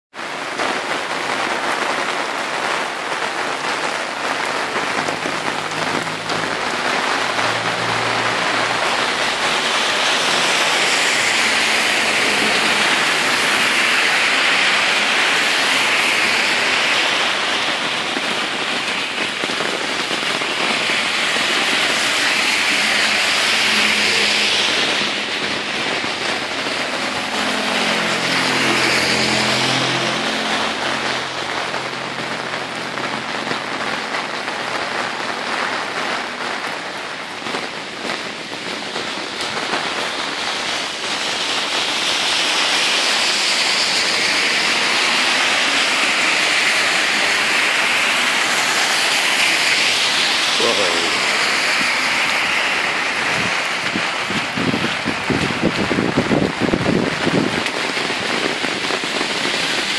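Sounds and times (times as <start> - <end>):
heavy rain on paved road: 0.0 - 59.9.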